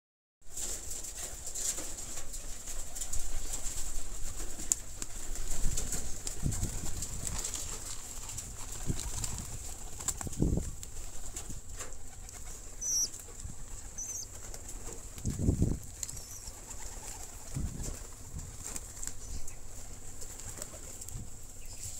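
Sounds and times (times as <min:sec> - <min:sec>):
wing flaps: 0:00.5 - 0:21.9
pigeons cooing: 0:02.2 - 0:21.9.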